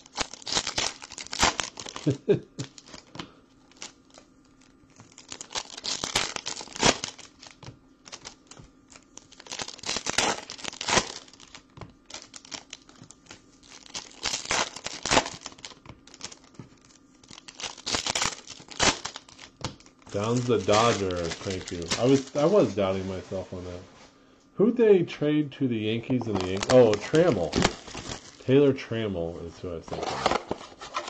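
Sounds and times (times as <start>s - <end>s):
plastic wrapper crinkling: 0.0s - 23.5s, 26.1s - 28.5s.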